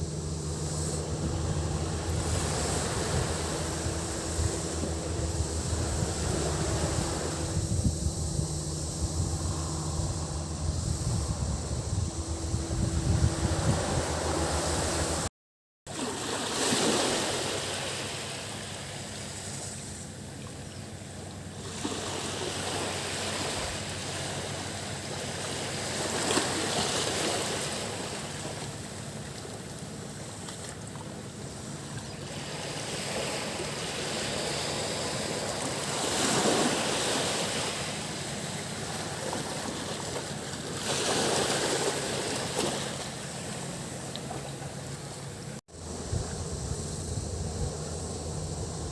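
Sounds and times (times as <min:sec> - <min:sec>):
waves breaking on sandy beach: 0:00.0 - 0:10.5, 0:12.2 - 0:15.3, 0:15.9 - 0:46.8
cicadas droning: 0:00.0 - 0:15.3, 0:15.9 - 0:48.9.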